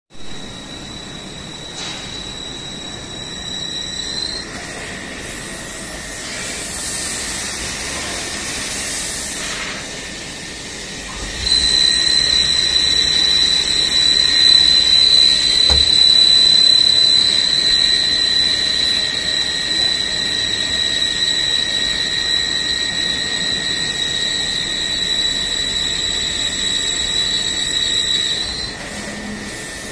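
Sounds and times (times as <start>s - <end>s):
high-pitched machine whine: 0.1s - 29.9s.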